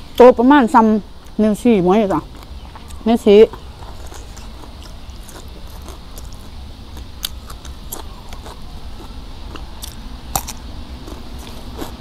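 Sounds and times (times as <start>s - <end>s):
person chewing: 2.2s - 12.0s.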